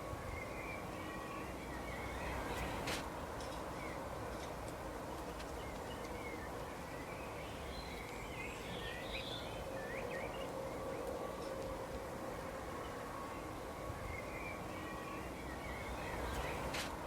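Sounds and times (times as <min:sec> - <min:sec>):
small birds chirping: 0:00.0 - 0:04.2, 0:05.1 - 0:11.7, 0:12.8 - 0:17.0
background hiss: 0:00.0 - 0:17.0.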